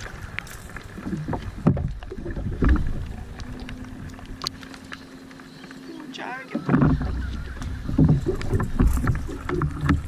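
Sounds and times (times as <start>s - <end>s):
low rumbling buffets: 0.3s - 10.0s.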